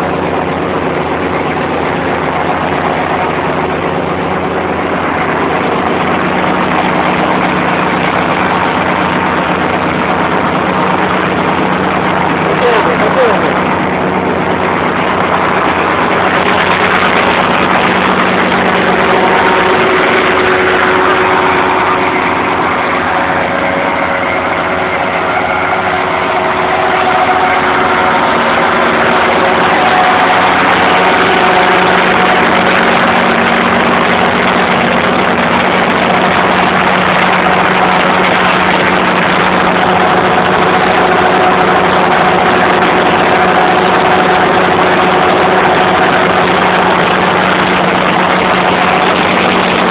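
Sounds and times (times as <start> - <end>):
ride-on mower cutting grass: 0.0 - 49.9.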